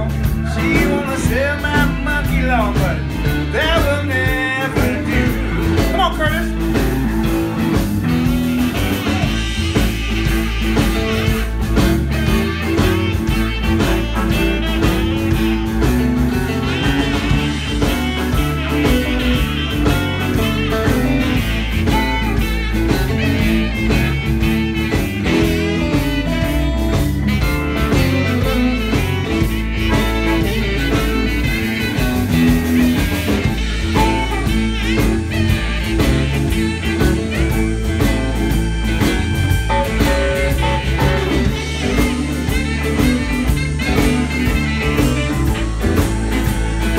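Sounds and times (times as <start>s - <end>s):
bass: 0.0s - 46.9s
drums: 0.0s - 46.9s
electric guitar: 0.0s - 46.9s
harmonica: 0.0s - 46.9s
keyboard: 0.0s - 46.9s
saxophones: 3.1s - 46.9s.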